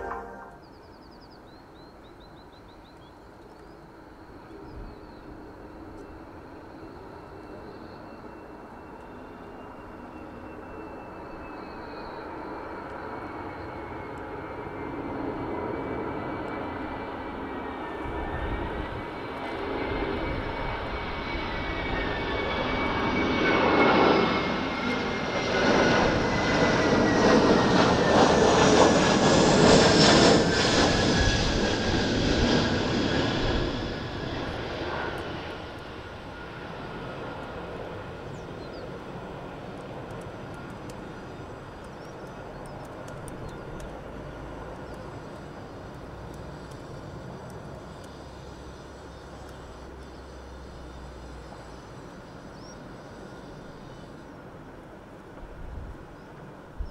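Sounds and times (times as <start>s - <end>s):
high jet engine whine: 0.0s - 56.9s
jet airliner flying past: 0.0s - 56.9s.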